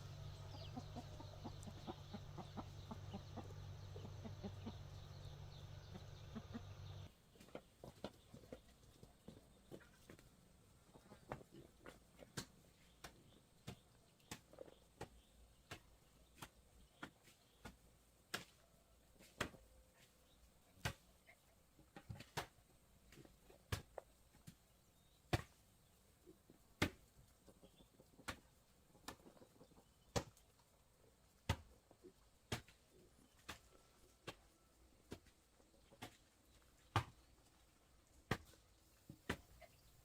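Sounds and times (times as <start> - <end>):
faint steady background noise: 0.0 - 40.0.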